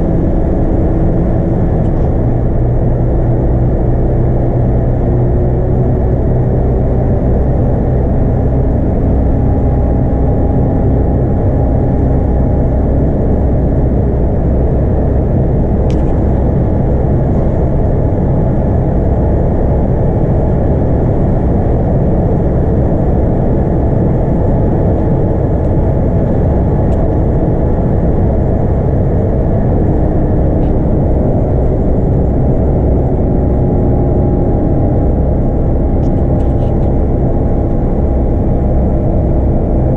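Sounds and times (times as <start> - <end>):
bus diesel engine running: 0.0 - 39.9
road and tyre noise: 0.0 - 39.9.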